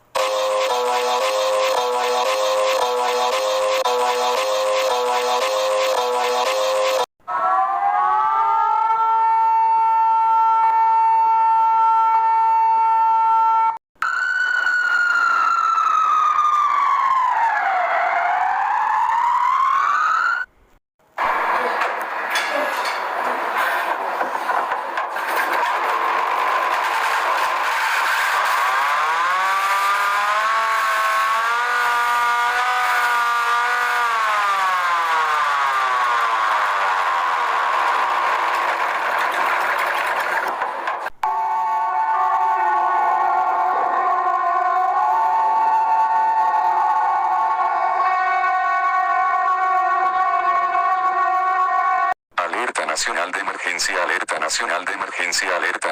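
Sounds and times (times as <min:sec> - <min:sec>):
emergency alert siren: 0:00.0 - 0:20.6, 0:25.2 - 0:52.2.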